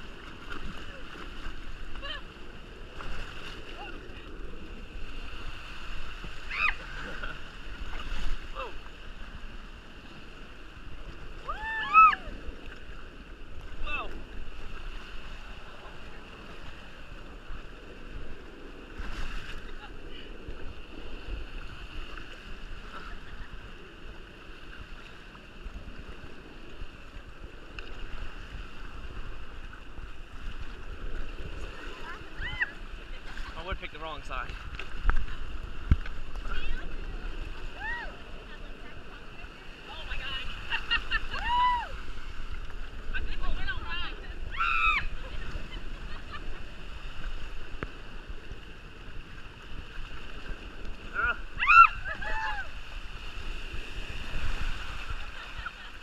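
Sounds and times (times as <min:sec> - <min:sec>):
water rushing: 0:00.0 - 0:56.0
wind buffeting microphone: 0:00.0 - 0:56.0.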